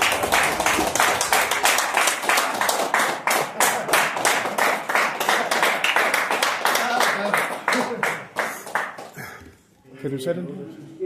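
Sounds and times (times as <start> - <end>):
people clapping: 0.0 - 9.6.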